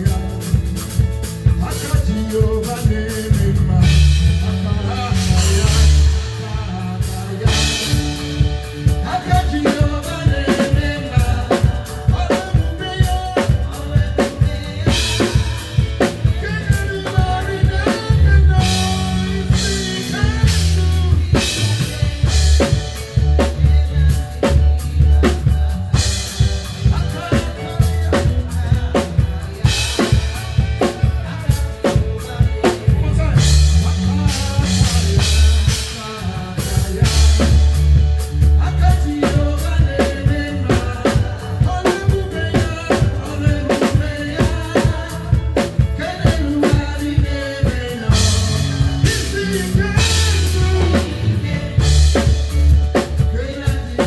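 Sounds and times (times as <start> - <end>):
drum kit: 0.0 - 54.0
live band playing: 0.0 - 54.0.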